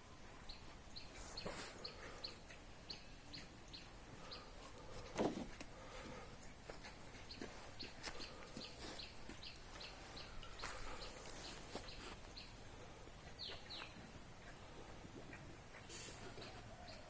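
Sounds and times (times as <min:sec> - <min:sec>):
birds chirping: 0:00.4 - 0:17.0.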